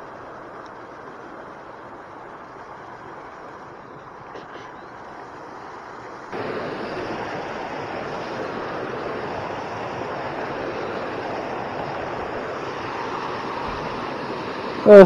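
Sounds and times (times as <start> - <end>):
flowing water: 0.0 - 15.0.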